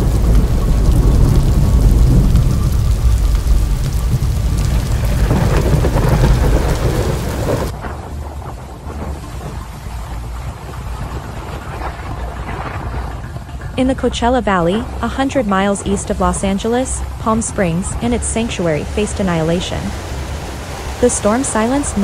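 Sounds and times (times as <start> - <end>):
deep continuous rumble: 0.0 - 22.0
floodwater rushing: 0.0 - 22.0
heavy rain: 0.0 - 22.0
wind: 0.0 - 22.0.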